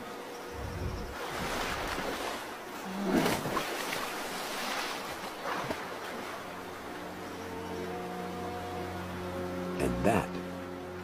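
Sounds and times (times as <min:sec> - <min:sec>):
river water splashing and rushing: 0:00.0 - 0:11.0.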